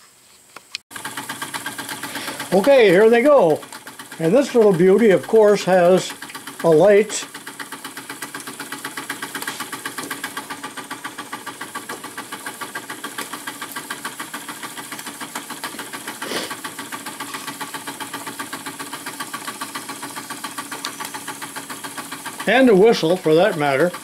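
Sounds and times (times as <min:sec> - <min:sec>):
mechanical clatter: 0:00.9 - 0:24.0
model steam engines puffing: 0:00.9 - 0:24.0.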